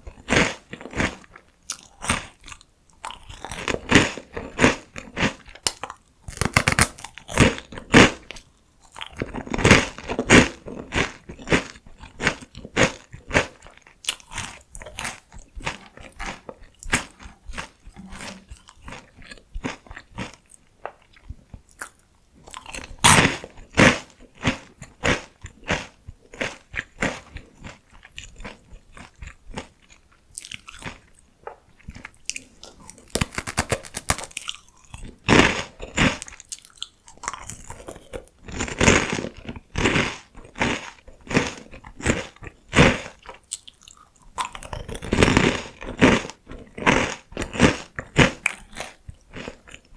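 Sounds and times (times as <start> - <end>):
crunching potato sticks: 0.0 - 49.9.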